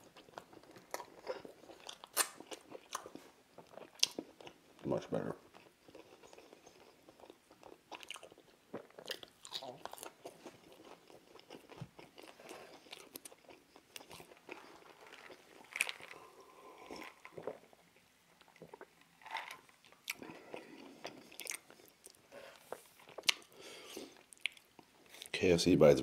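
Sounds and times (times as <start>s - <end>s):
chewing and crunching fried food: 0.0s - 25.4s.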